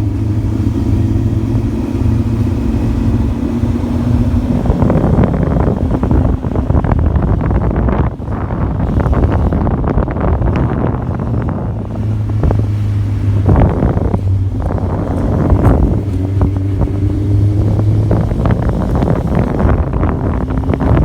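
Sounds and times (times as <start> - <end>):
engine running at speed: 0.0 - 21.0
wind buffeting microphone: 0.0 - 21.0.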